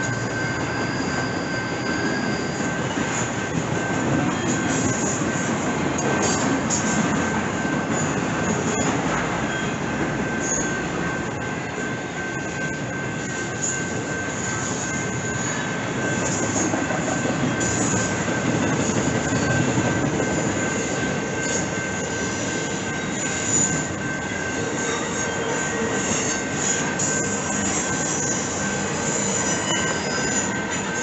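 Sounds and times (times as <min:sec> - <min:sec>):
high wheel squeals: 0:00.0 - 0:05.4, 0:07.7 - 0:10.9, 0:12.6 - 0:31.0
freight train rumbling on rails: 0:00.0 - 0:31.0.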